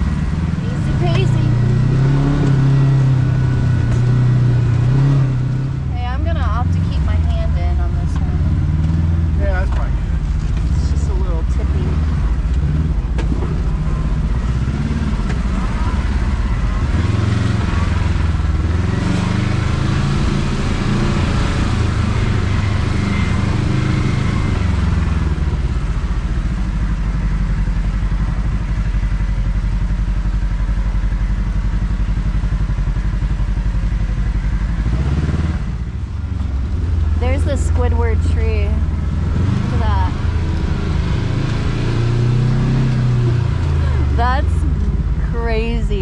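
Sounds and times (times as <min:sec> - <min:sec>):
off-road vehicle engine running: 0:00.0 - 0:46.0.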